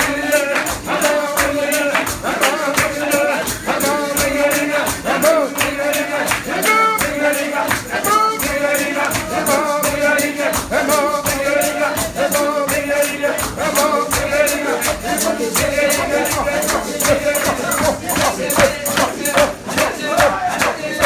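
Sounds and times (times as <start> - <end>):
shaker percussion beat: 0.0 - 21.0
voices singing a hymn: 0.0 - 21.0.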